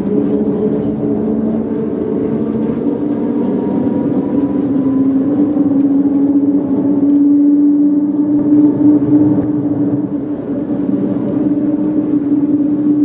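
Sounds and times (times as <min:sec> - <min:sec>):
tram electric hum: 0:00.0 - 0:13.0
tram rumble on track: 0:00.0 - 0:13.0.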